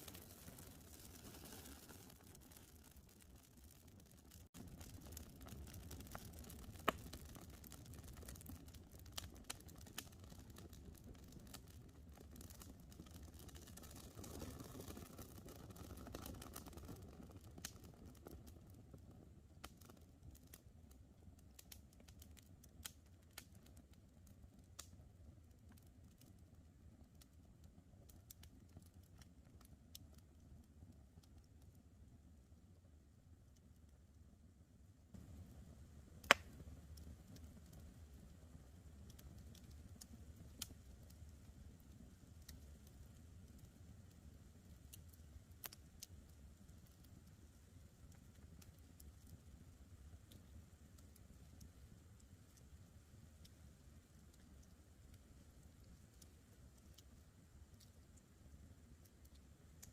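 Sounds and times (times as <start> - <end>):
campfire crackling: 0.0 - 25.0, 27.2 - 30.6, 35.2 - 59.9
low rumble of flames: 0.0 - 34.4, 35.1 - 59.9.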